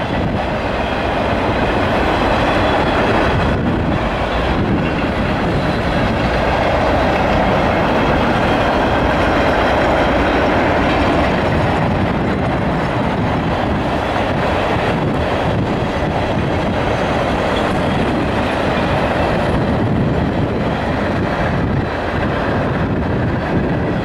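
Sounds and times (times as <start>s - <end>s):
steel wheels running on rails: 0.0s - 24.0s.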